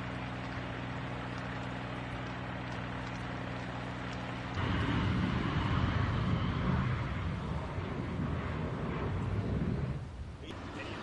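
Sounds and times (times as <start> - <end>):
engine hum: 0.0 - 11.0
wildfire burning through trees: 0.0 - 11.0
wind: 0.0 - 11.0.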